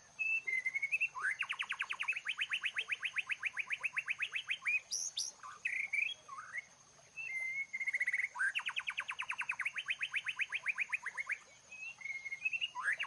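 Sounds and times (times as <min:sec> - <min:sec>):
bird chirps and trill: 0:00.2 - 0:13.0.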